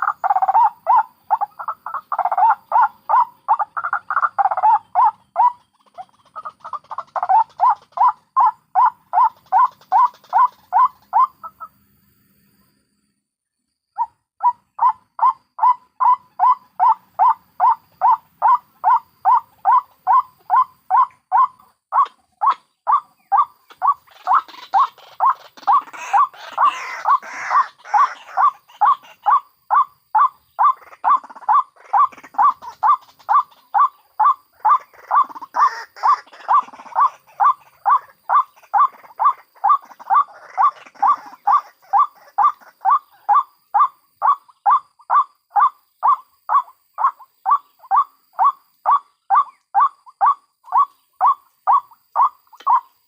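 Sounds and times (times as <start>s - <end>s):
scratchy waterhen calls: 0.0s - 11.7s, 14.0s - 53.0s
waterhen calls: 0.0s - 11.8s, 14.0s - 53.0s.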